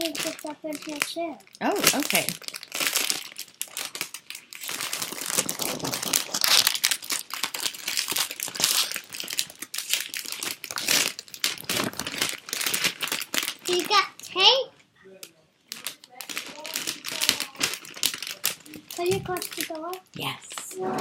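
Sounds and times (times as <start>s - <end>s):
crinkly packaging rustling: 0.0s - 14.3s, 15.7s - 21.0s.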